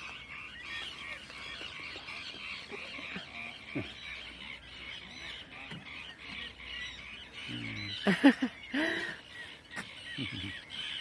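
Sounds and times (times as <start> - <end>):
waterbirds calling: 0.0 - 11.0.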